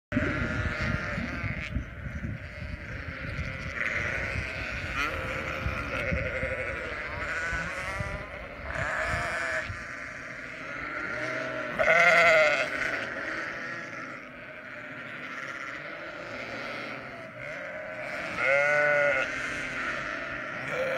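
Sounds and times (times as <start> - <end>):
sheep bleating: 0.1 - 20.9.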